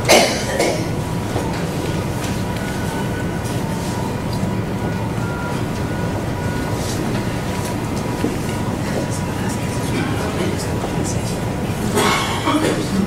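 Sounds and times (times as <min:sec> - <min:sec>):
faint hum-like tone: 0:00.0 - 0:13.0.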